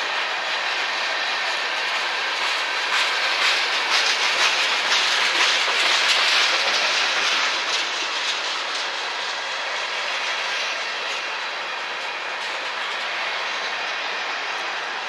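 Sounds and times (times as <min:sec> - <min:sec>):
freight train cars rolling: 0:00.0 - 0:15.0
wheels clicking over rail joints: 0:00.0 - 0:15.0.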